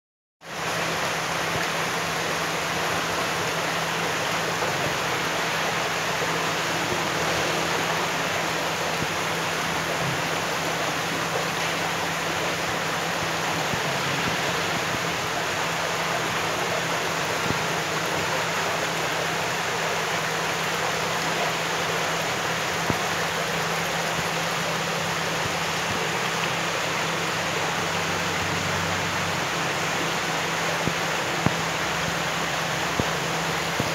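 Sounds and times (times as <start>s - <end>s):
running water rushing: 0.4s - 33.9s.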